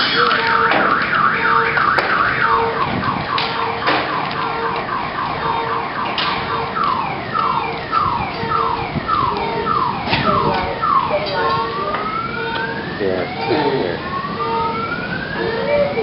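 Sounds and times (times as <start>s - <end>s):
car alarm beeping: 0.0s - 16.0s
car alarm warbling: 0.0s - 16.0s.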